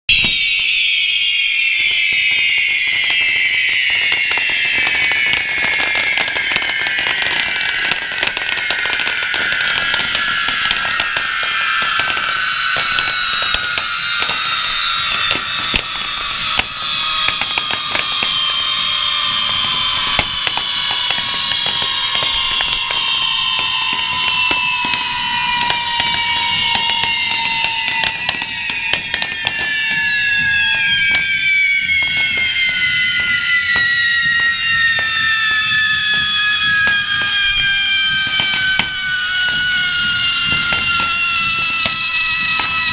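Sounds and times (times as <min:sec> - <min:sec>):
fireworks whistling hiss: 0:00.1 - 0:42.9.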